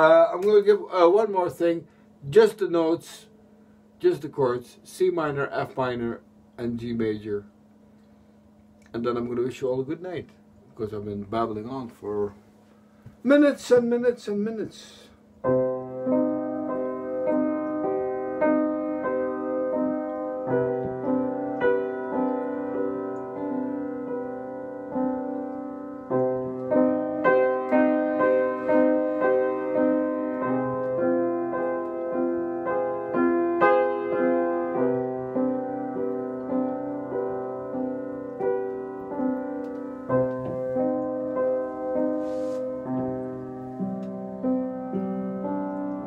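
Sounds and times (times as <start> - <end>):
upright piano chords: 0.0 - 7.8, 8.9 - 46.0.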